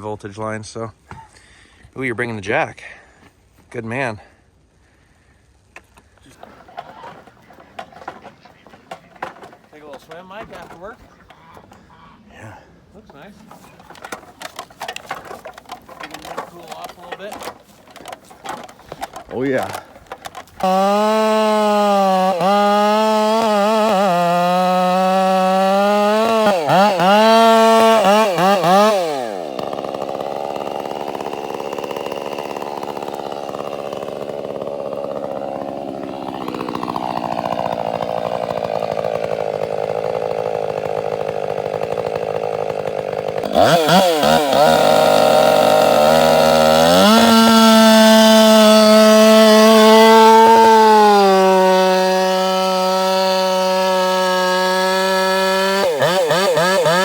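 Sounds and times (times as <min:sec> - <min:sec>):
chainsaw revving and cutting: 0:06.3 - 0:11.8, 0:12.5 - 0:57.0.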